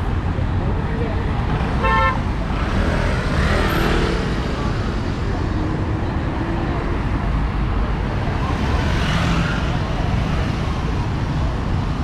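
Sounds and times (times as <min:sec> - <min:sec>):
cars and buses passing: 0:00.0 - 0:12.0
faint voices of passers-by: 0:00.0 - 0:12.0.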